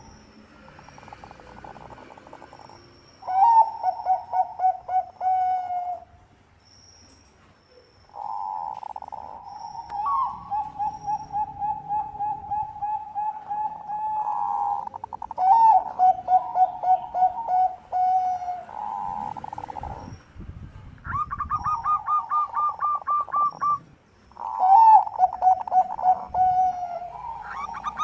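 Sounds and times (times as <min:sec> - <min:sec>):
dove cooing: 0:00.8 - 0:06.1, 0:08.2 - 0:20.1, 0:21.1 - 0:23.8, 0:24.4 - 0:28.0.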